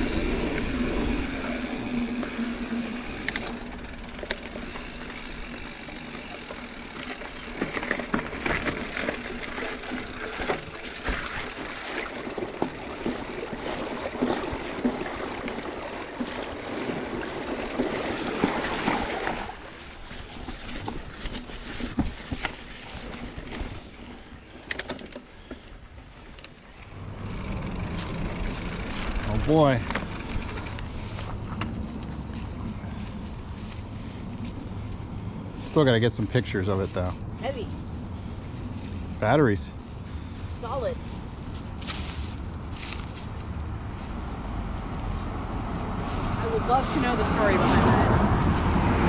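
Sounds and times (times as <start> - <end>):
bike tyres rolling on dirt: 0.0 - 49.0.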